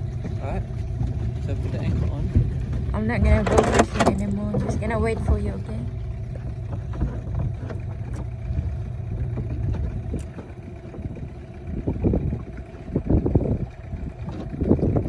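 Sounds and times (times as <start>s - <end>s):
boat engine idling: 0.0s - 15.0s
wind buffeting microphone: 0.0s - 15.0s.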